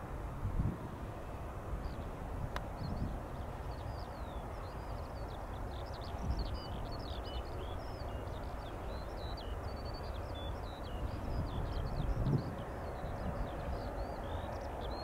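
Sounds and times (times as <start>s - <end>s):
songbirds chirping: 1.1s - 15.0s.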